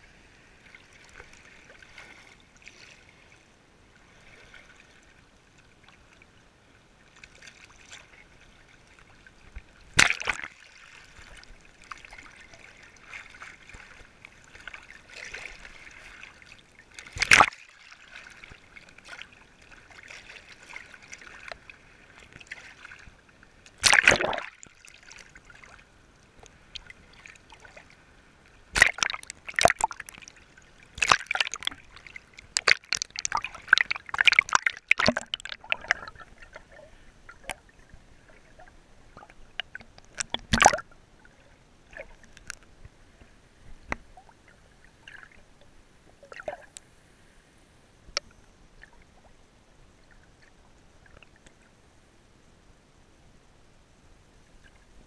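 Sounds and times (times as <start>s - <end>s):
waves sloshing: 0.0s - 6.2s, 7.1s - 45.5s.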